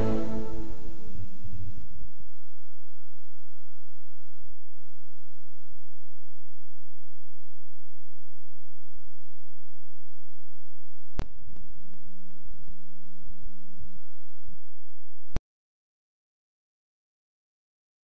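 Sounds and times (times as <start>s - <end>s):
low steady hum tone: 0.0s - 15.4s.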